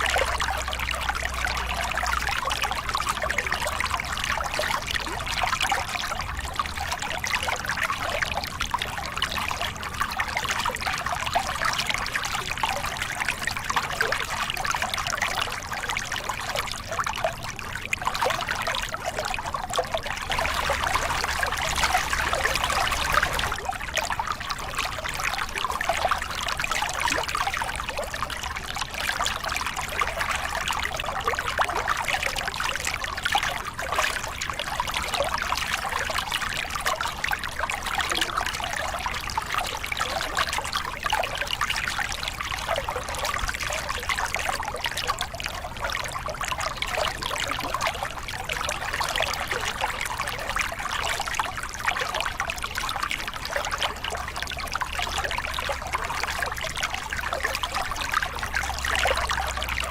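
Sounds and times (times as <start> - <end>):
water splashing over rocks: 0.0 - 59.9.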